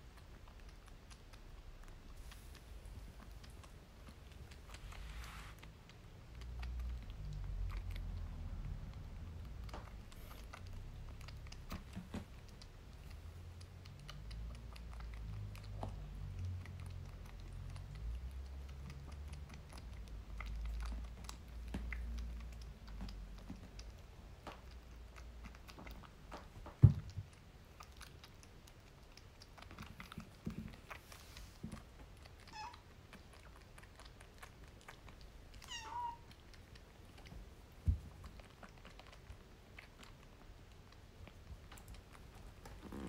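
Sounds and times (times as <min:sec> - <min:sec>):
kitten suckling at a bottle: 0:00.0 - 0:43.0.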